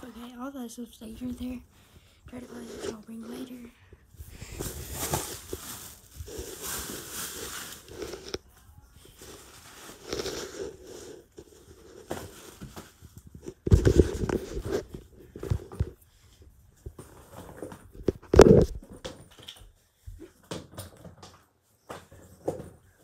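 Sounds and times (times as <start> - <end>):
rustling handling noises: 0.0 - 23.0.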